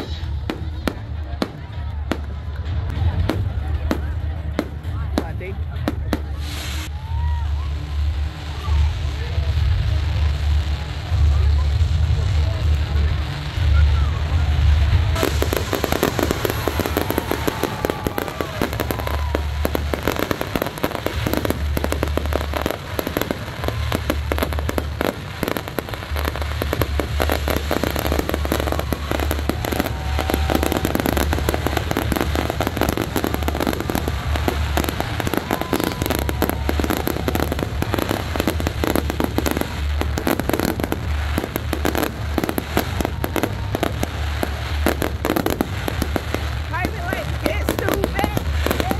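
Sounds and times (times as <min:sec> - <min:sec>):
fireworks crackling and popping: 0:00.0 - 0:48.9.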